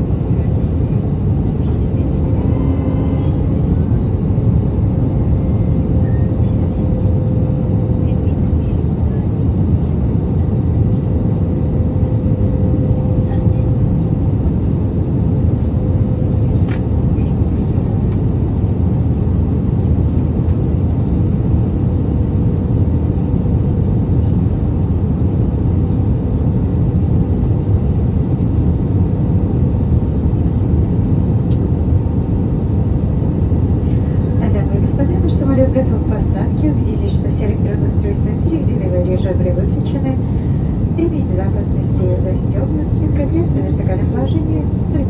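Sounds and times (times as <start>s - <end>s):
airplane cabin engine rumble: 0.0s - 45.0s.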